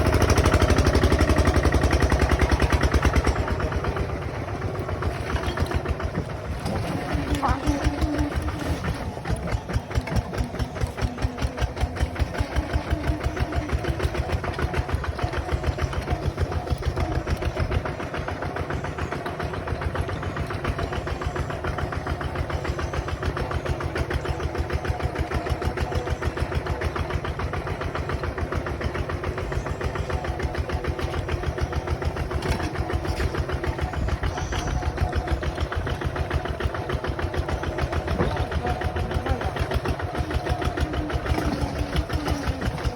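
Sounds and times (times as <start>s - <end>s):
bulldozer diesel engine chugging: 0.0s - 42.9s.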